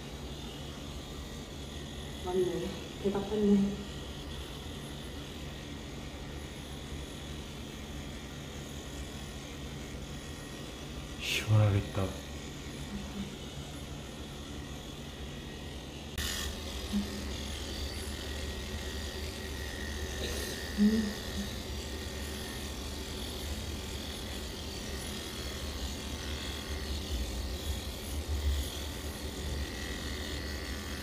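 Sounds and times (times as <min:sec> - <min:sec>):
electric clippers buzzing: 0:00.0 - 0:31.0.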